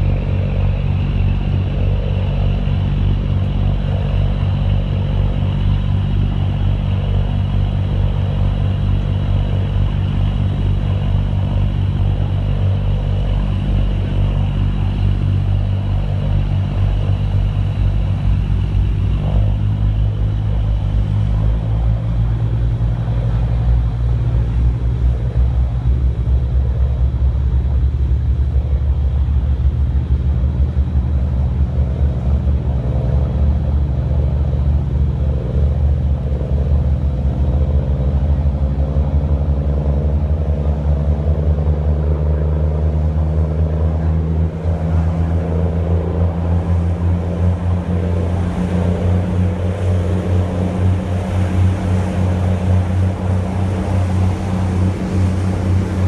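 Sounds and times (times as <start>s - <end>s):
ferry engines droning: 0.0s - 56.0s.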